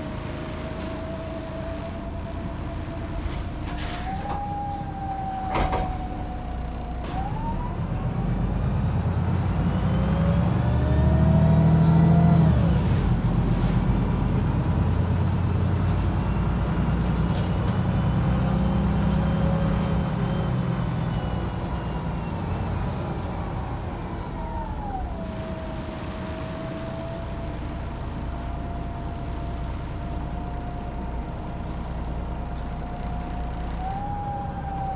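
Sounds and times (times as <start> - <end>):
bus diesel engine: 0.0 - 34.9.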